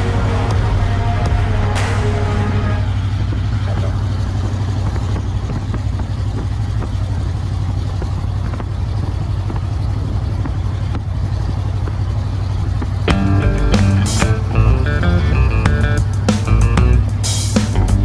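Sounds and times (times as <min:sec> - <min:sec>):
road noise: 0:00.0 - 0:18.0
van engine droning: 0:00.0 - 0:18.0.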